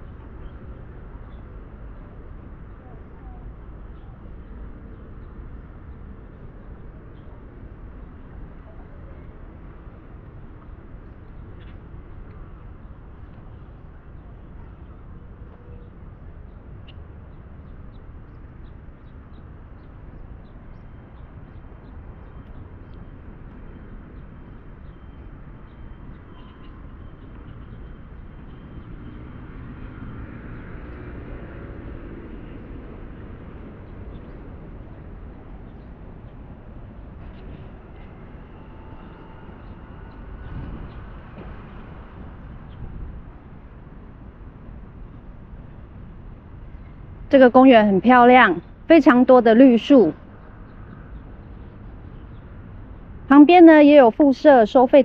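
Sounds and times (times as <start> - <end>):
distant road traffic rumble: 0.0 - 55.0.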